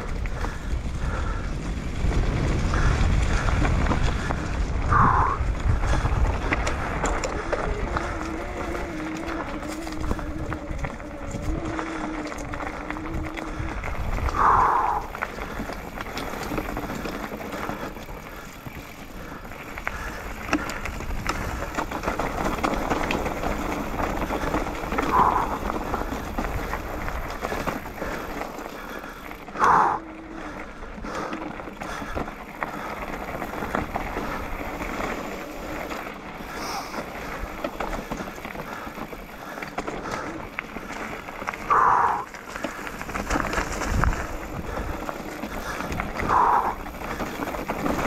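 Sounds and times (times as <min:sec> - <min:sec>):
bike rattling: 0:00.0 - 0:48.0
tyres on dirt and stones: 0:00.0 - 0:48.0.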